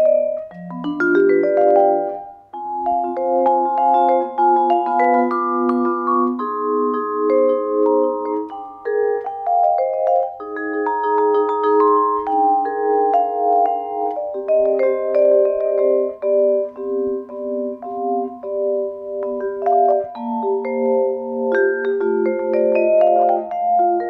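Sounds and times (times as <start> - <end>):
vibraphone playing chords and melody: 0.0 - 24.0.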